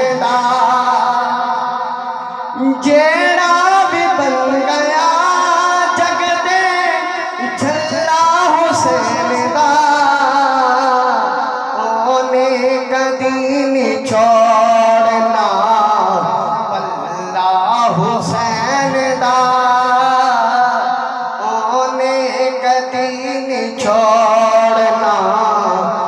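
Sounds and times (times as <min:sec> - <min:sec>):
young man singing into a microphone: 0:00.0 - 0:26.0.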